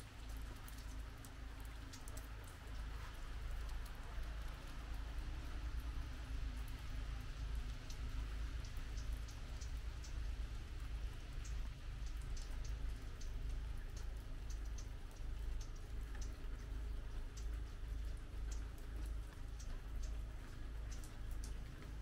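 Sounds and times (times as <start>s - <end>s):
raindrops ticking: 0.0s - 22.0s
soft rain hiss: 0.0s - 22.0s.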